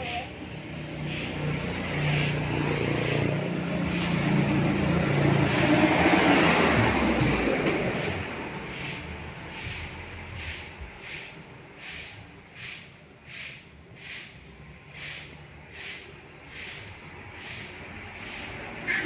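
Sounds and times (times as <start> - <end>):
broom sweeping: 0.0 - 19.0
loud rushing noise: 0.0 - 19.0.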